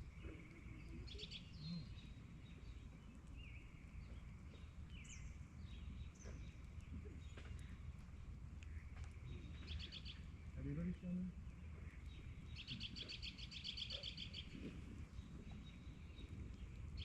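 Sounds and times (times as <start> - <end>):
birds chirping and whistling: 0.0 - 7.9, 8.8 - 17.0
low steady background rumble: 0.0 - 17.0.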